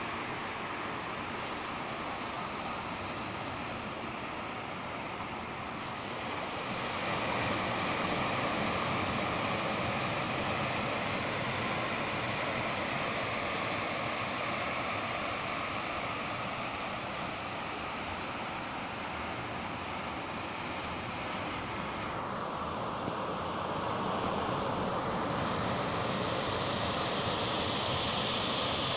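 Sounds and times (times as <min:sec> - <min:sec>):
surf washing over rocks: 0:00.0 - 0:28.9.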